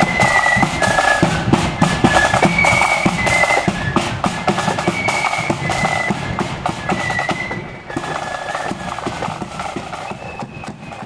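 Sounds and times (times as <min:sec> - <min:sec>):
high held flute notes: 0:00.0 - 0:11.0
steady drum beats: 0:00.0 - 0:11.0.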